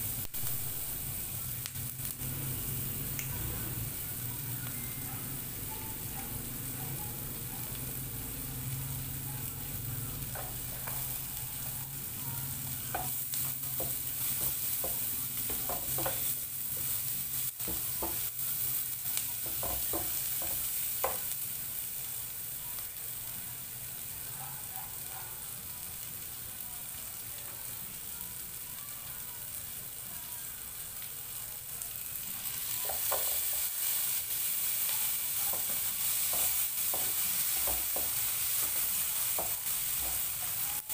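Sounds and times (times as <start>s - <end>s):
onion sizzling in hot oil: 0.0s - 40.9s.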